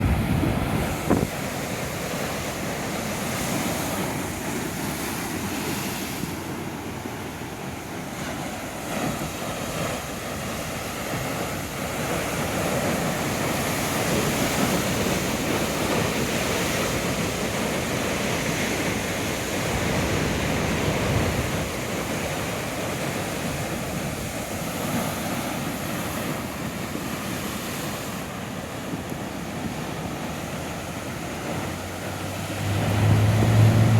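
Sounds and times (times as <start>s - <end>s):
wind noise on microphone: 0.0s - 6.6s, 7.6s - 33.9s
ocean waves breaking: 0.0s - 33.9s.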